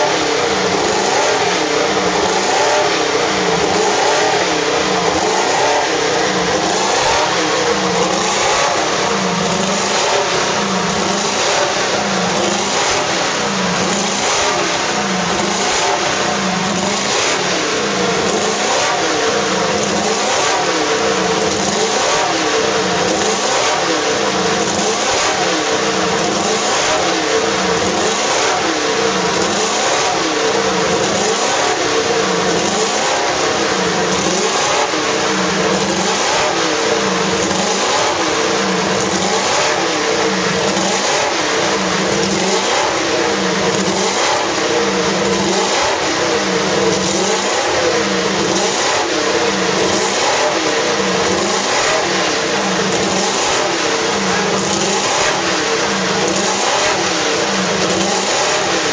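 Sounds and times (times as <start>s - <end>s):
race car engine fast idle: 0.0s - 58.9s.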